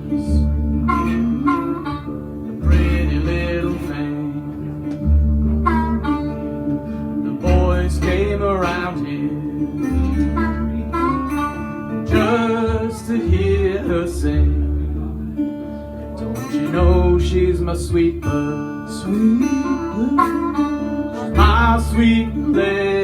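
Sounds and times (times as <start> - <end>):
acoustic guitar: 0.0 - 23.0
bass notes: 0.0 - 23.0
bending lead guitar line: 0.0 - 23.0.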